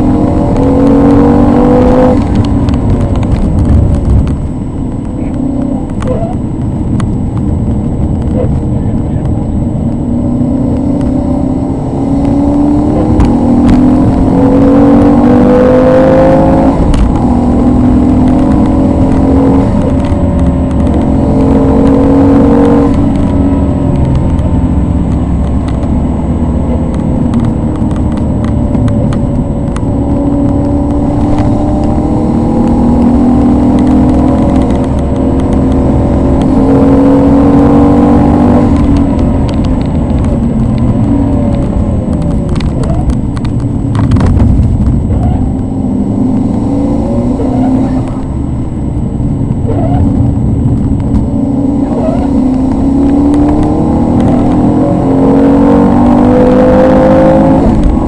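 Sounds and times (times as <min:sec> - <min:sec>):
car engine revving through gears: 0:00.0 - 0:58.0.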